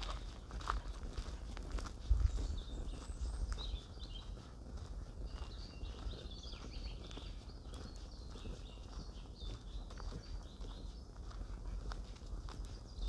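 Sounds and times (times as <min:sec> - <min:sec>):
footsteps on dirt trail: 0:00.0 - 0:13.0
songbirds chirping: 0:00.0 - 0:13.0.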